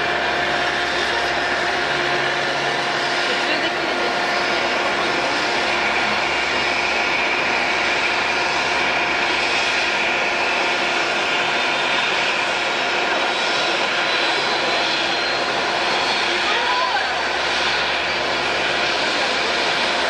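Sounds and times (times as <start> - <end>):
jet airliner engine whine: 0.0 - 20.0.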